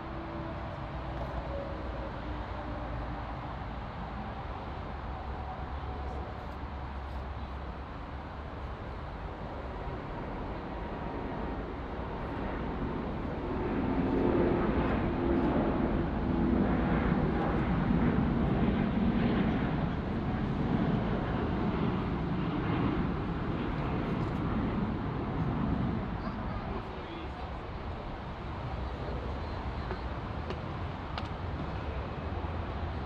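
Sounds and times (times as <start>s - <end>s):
jet airliner engines passing: 0.0s - 33.0s.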